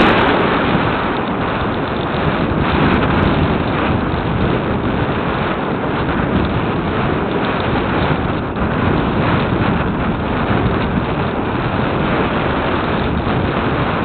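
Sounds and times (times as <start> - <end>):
wind rushing on microphone: 0.0 - 14.0.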